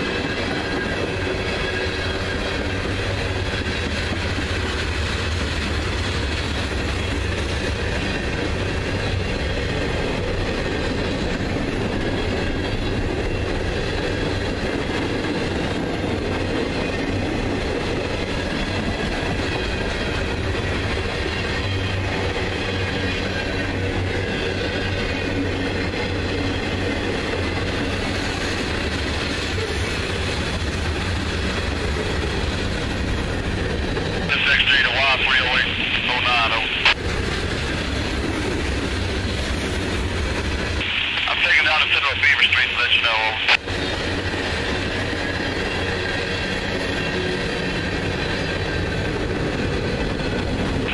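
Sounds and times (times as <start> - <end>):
freight train wheels clattering on rails: 0.0 - 34.3, 43.6 - 50.9.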